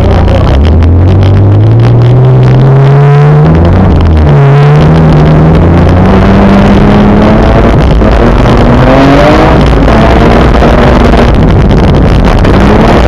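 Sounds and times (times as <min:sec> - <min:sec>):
loud car engine accelerating: 0:00.0 - 0:13.0.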